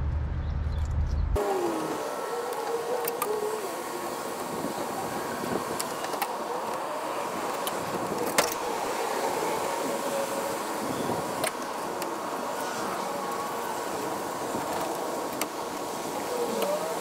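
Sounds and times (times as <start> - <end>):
outdoor background hiss: 1.4 - 17.0.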